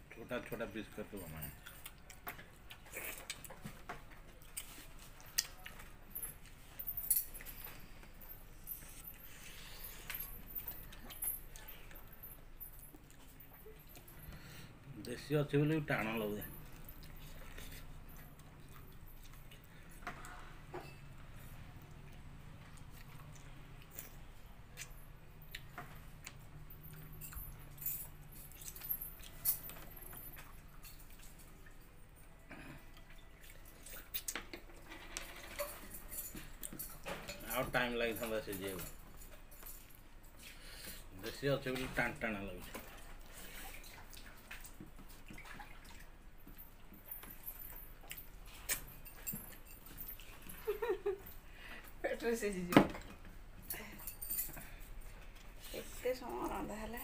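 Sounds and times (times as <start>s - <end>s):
chewing and wet mouth sounds: 0.4s - 15.3s, 15.9s - 34.9s, 38.9s - 51.4s.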